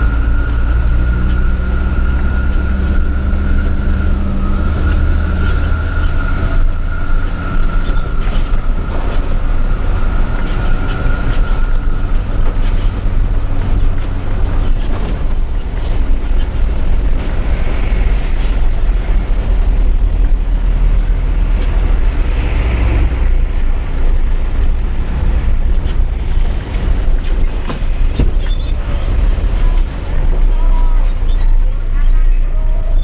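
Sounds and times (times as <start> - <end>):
truck diesel engine droning: 0.0 - 33.0.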